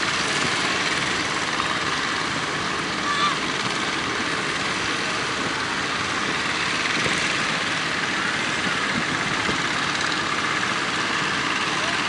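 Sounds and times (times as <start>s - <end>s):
boat engines running: 0.0s - 12.0s
rushing noise: 0.0s - 12.0s.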